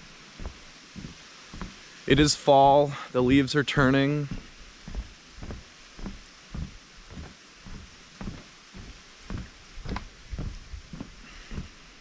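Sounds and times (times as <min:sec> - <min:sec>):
footsteps on wooden boardwalk: 0:00.0 - 0:12.0.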